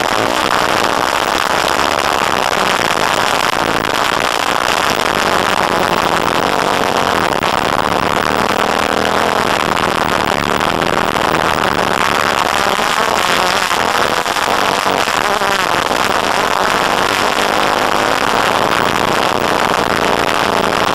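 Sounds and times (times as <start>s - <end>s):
off-road vehicle engine running: 0.0s - 20.9s.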